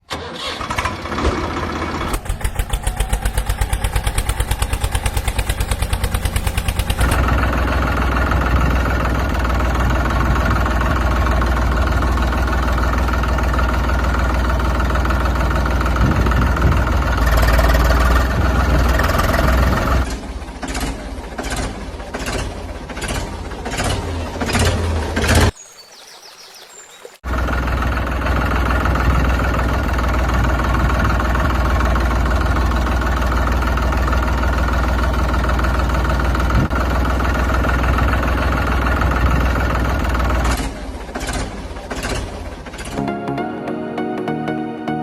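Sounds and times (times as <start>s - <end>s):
tractor engine chugging: 0.1s - 25.5s, 27.3s - 43.0s.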